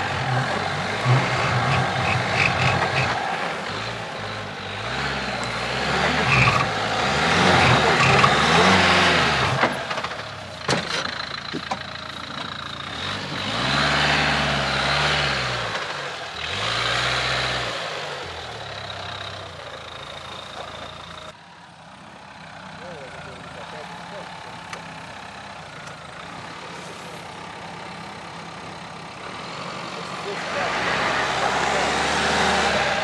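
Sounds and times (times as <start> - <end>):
engine revving: 0.0 - 21.4, 22.8 - 33.0.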